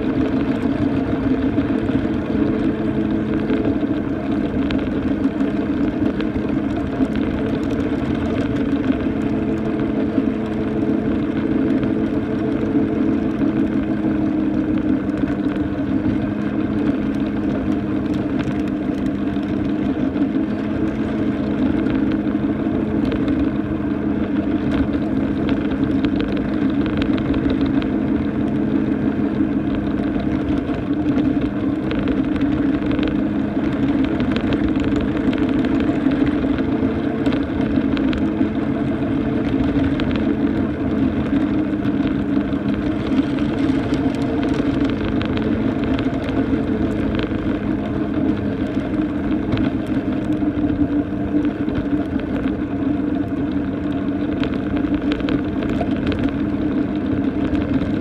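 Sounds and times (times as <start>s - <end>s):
wheels clicking on rails: 0.0s - 58.0s.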